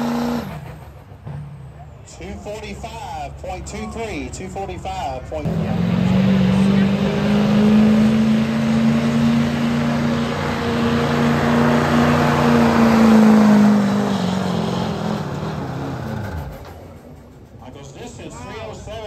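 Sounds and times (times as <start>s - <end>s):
truck engine at full throttle: 0.0s - 19.0s.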